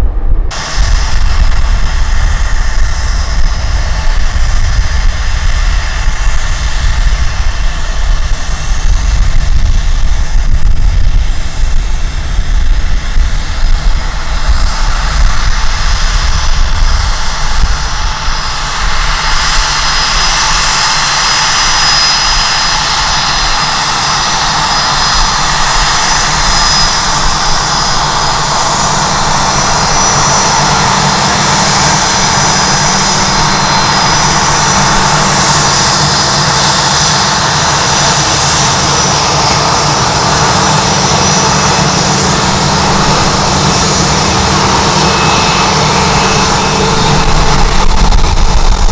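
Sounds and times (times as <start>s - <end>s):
jet engines running: 0.0s - 48.9s
wind buffeting microphone: 0.0s - 48.9s.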